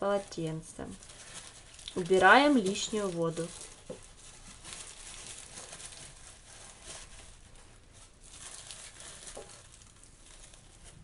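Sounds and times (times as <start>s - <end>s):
paper towel rustling and patting: 0.1s - 11.0s.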